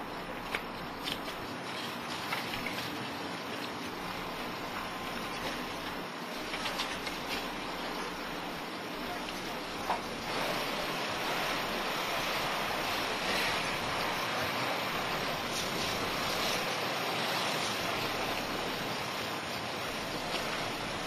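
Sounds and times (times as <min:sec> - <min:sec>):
fire hose spraying water: 0:00.0 - 0:21.0.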